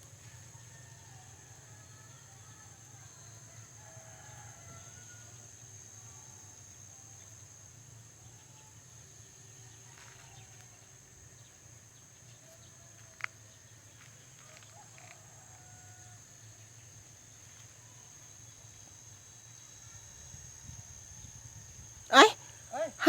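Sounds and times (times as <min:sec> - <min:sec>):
high insect drone: 0:00.3 - 0:23.0.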